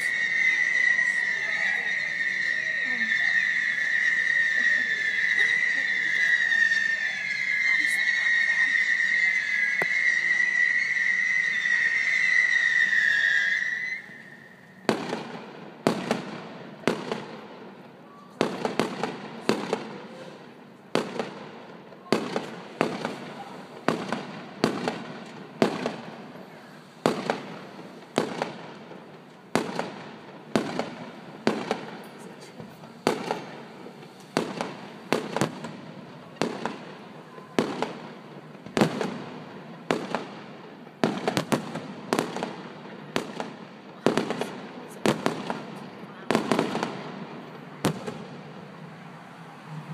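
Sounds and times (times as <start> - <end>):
whistling firework: 0.0 - 49.9.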